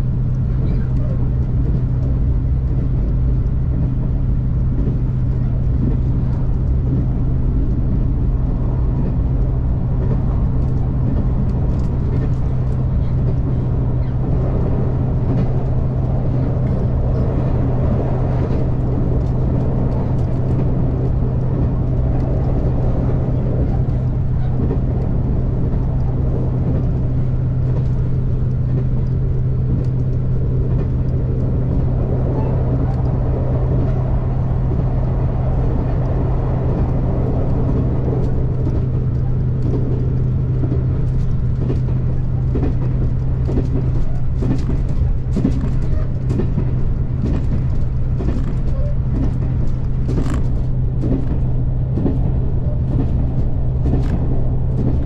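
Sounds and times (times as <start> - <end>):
railcar engine drone: 0.0 - 55.0
train running rumble: 0.0 - 55.0.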